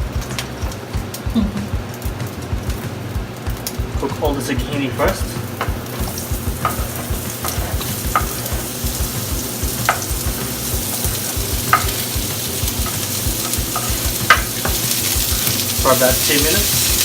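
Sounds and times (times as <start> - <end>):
vegetables sizzling in oil: 0.0 - 17.0
utensil clicking against pan: 1.9 - 17.0.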